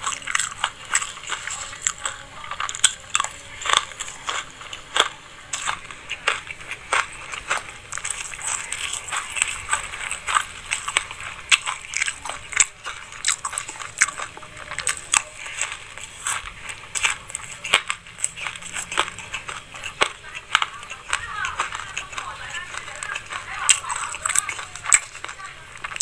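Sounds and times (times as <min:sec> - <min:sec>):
chewing crunchy seeds: 0:00.0 - 0:26.0.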